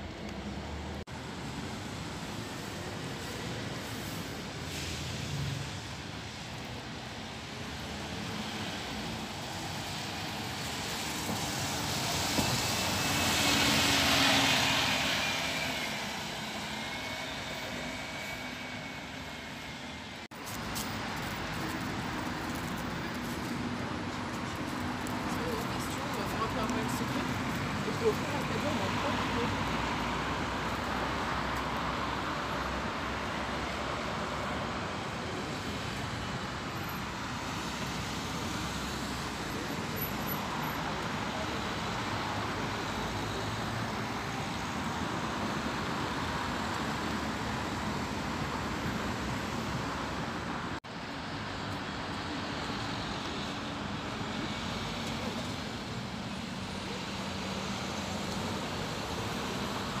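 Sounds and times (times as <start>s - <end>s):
buses and cars passing: 0.0s - 60.0s.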